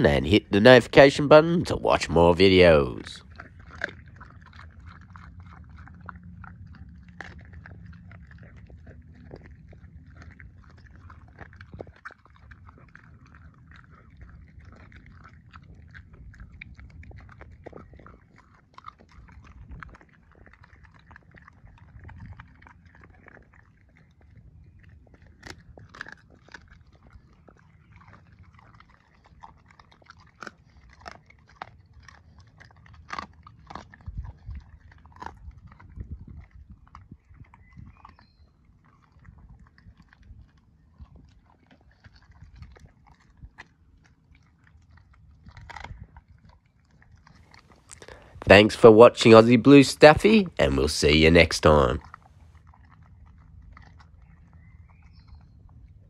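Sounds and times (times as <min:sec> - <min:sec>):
dog chewing bone: 0:03.2 - 0:48.5, 0:52.0 - 0:55.0.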